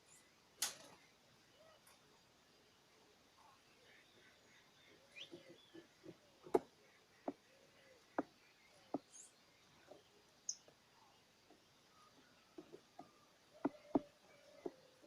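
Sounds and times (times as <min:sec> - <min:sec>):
faint high bird chirps: 0:00.0 - 0:15.0.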